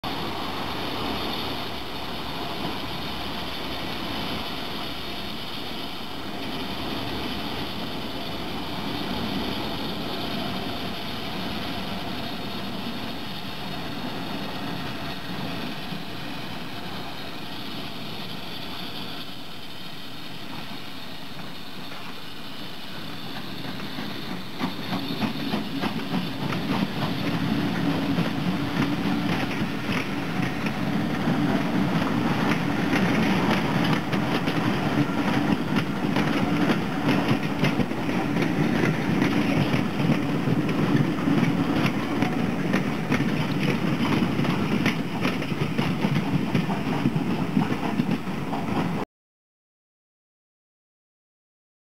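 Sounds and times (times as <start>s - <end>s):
steam locomotive exhaust chuffing: 0.0s - 49.0s.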